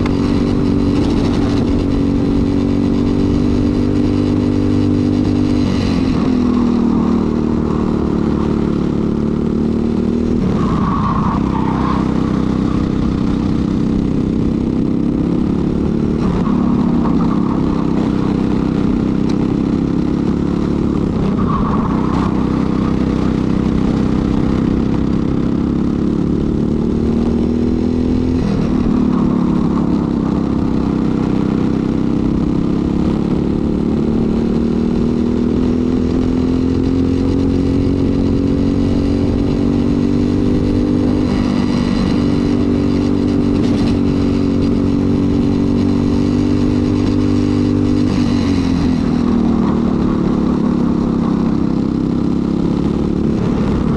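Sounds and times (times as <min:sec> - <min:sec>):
kart engine racing: 0:00.0 - 0:53.9.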